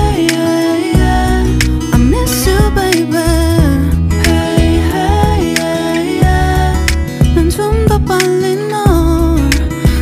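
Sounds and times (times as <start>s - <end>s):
pop music: 0.0s - 10.0s.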